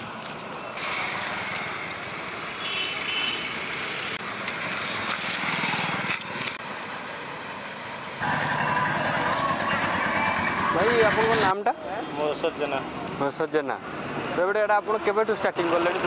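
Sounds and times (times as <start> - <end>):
roadside traffic noise: 0.0 - 16.0.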